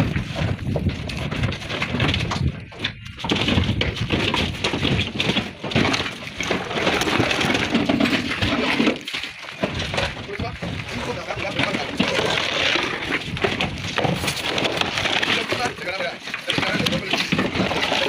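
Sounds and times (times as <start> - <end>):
stone slabs clattering and scraping: 0.0 - 18.0.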